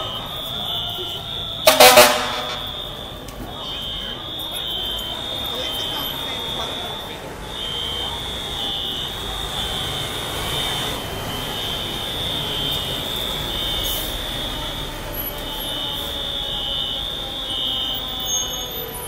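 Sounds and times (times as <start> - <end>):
fire alarm buzzing: 0.0 - 19.0.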